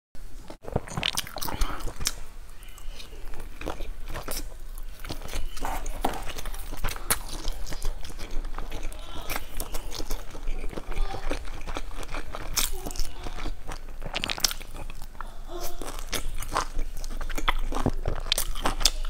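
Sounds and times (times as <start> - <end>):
crunching and wet chewing: 0.6 - 19.0.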